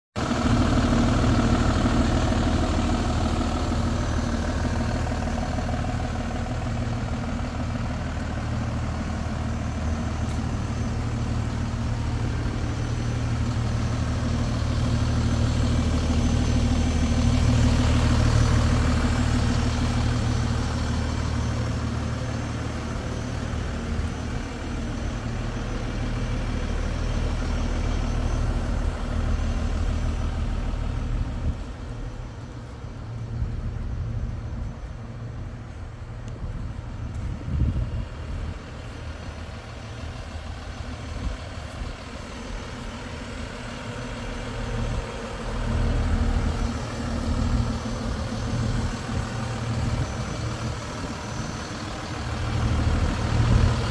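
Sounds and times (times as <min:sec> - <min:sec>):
diesel truck engine idling: 0:00.2 - 0:53.9.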